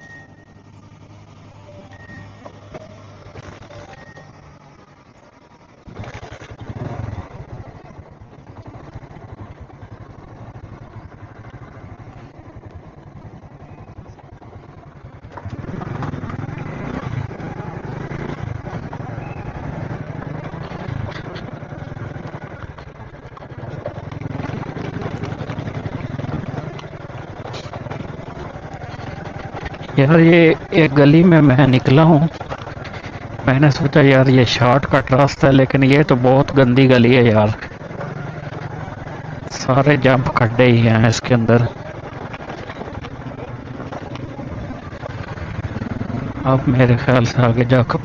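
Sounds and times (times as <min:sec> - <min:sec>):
road and wind noise: 0:00.0 - 0:48.0
small motorcycle engine running: 0:00.0 - 0:48.0.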